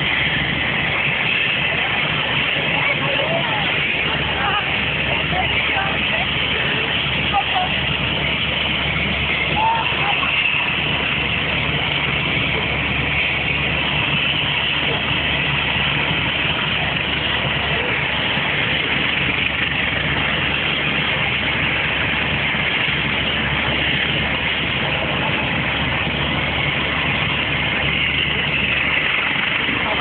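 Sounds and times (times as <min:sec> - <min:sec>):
constant hiss: 0:00.0 - 0:30.0
engine idling: 0:00.0 - 0:30.0.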